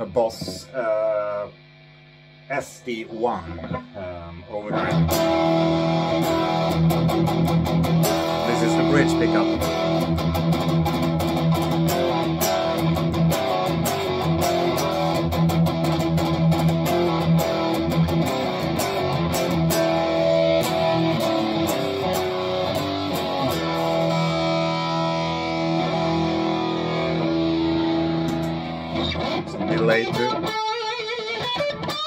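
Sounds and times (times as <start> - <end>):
distorted electric guitar riffing: 0.0 - 32.0.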